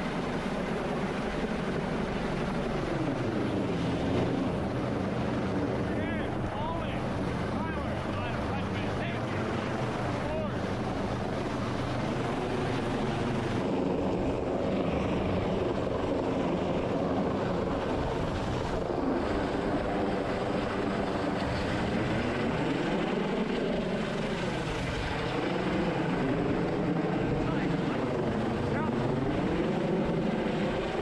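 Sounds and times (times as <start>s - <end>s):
helicopter engines and rotors: 0.0s - 31.0s.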